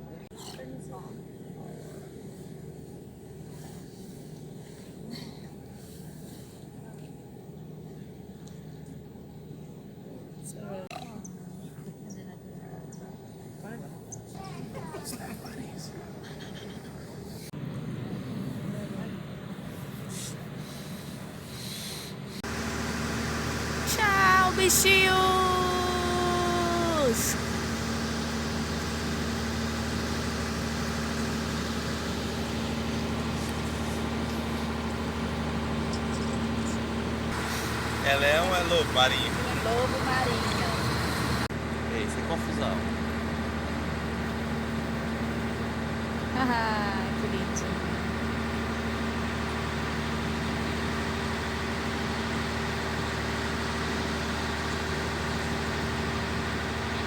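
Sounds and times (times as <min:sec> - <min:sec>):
boat engine humming: 0:00.0 - 0:10.7, 0:15.3 - 0:57.0.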